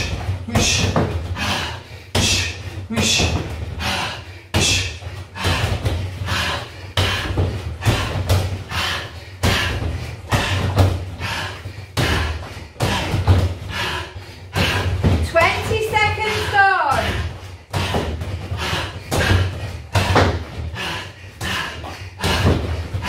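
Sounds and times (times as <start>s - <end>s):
bare feet thudding on foam mat: 0.0s - 23.0s.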